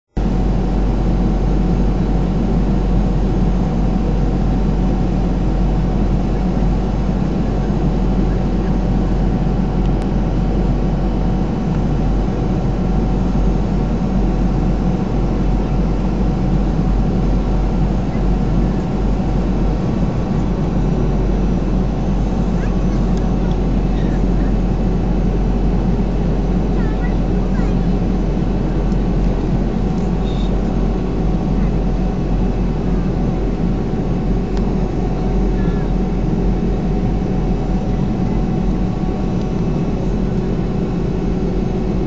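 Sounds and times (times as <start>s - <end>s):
deep hum: 0.1s - 42.0s
jet engine drone: 0.1s - 42.0s.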